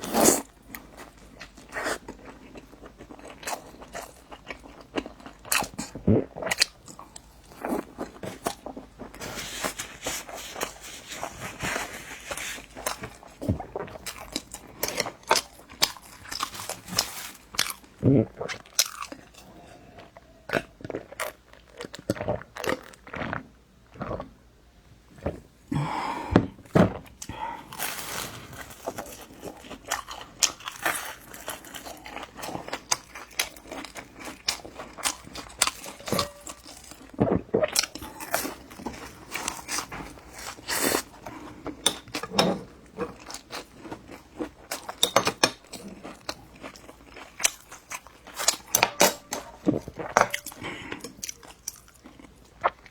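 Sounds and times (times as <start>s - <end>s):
chewing food: 0.0s - 24.3s, 27.1s - 52.9s.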